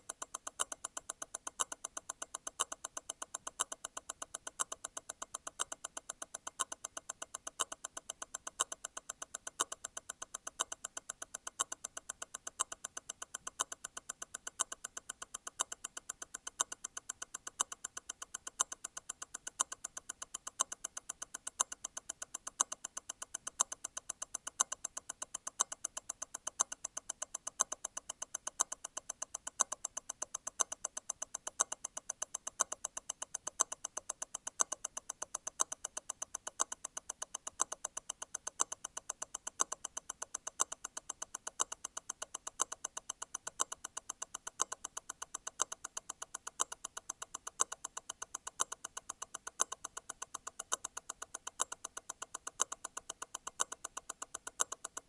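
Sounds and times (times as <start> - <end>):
watch movement ticking: 0.0 - 55.0.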